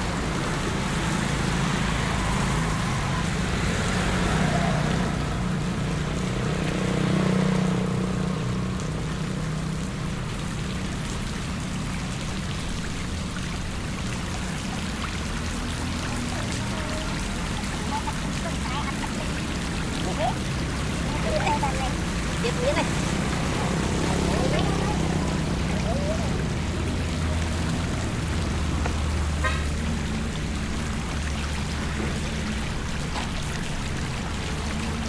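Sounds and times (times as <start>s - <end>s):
running floodwater: 0.0s - 35.0s
steady rain: 0.0s - 35.0s
vehicle engine hum: 0.0s - 35.0s.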